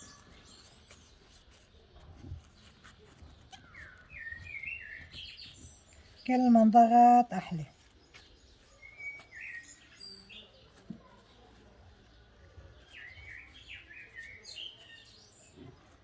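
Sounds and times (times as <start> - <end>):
faint bird chirps: 0.0 - 6.6, 7.5 - 16.0.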